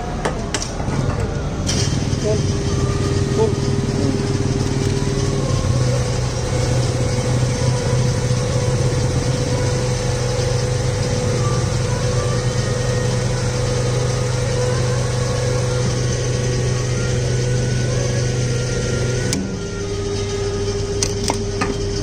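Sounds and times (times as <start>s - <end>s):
motor humming steadily: 0.0s - 22.0s.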